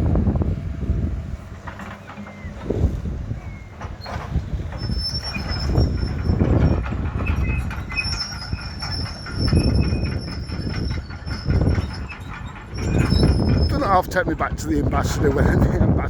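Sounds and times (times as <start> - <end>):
tram rumbling on rails: 0.0 - 16.0
metallic wheel squeal: 1.3 - 14.4.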